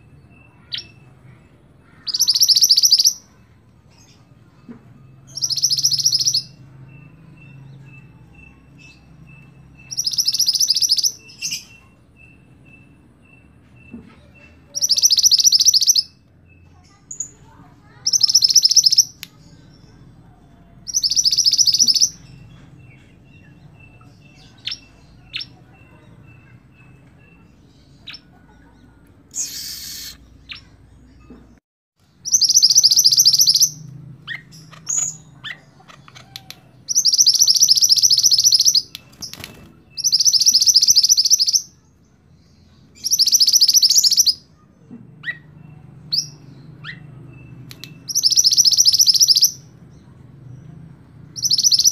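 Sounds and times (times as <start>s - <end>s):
bird singing trilled phrases: 0.0s - 20.2s, 20.8s - 31.4s, 32.2s - 49.8s, 51.3s - 51.9s.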